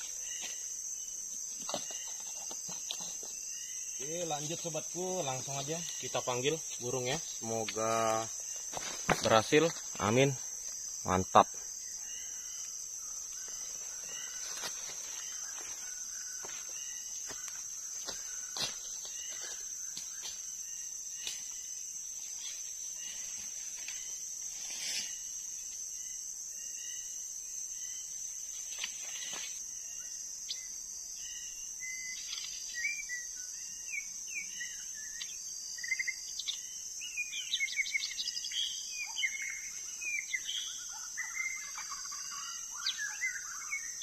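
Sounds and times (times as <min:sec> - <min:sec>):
crickets droning: 0:00.0 - 0:44.0.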